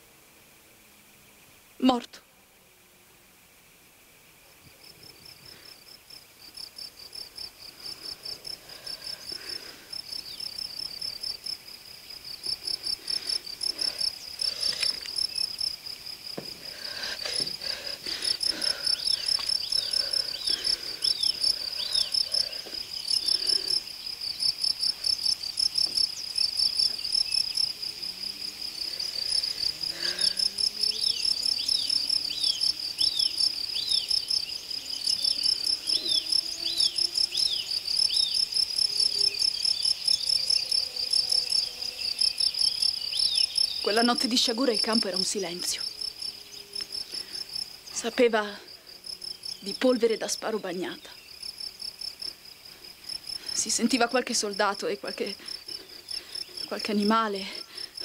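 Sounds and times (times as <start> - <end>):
crickets chirping: 3.3 - 58.0.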